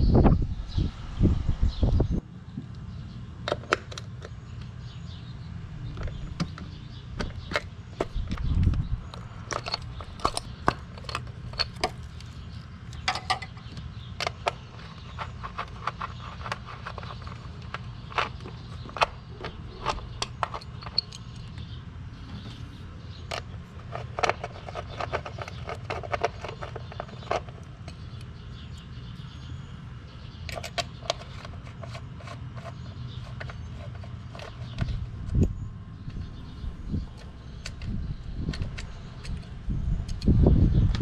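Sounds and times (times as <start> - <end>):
steady low hum: 0.0 - 41.0
tools tapping and scraping: 5.8 - 29.3, 30.3 - 40.4.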